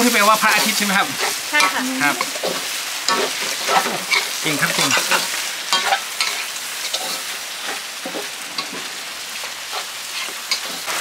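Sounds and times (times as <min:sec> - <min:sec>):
meat sizzling in hot oil: 0:00.0 - 0:11.0
spatula scraping a pan: 0:00.0 - 0:11.0.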